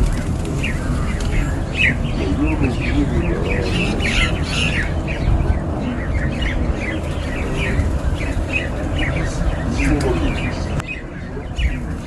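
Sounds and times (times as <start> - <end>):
sparrow chirping: 0.0 - 12.0
steady low hum: 0.0 - 12.0.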